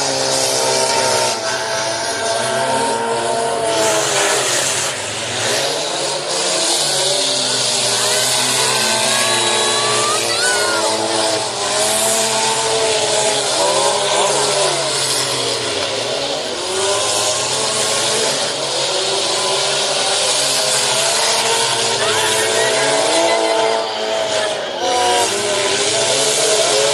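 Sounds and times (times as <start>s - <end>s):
car engines revving: 0.0s - 26.9s.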